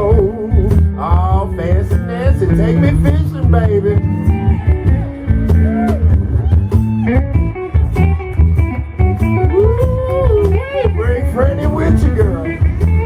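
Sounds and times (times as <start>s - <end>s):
electric guitar: 0.0s - 13.0s
live blues band playing: 0.0s - 13.0s.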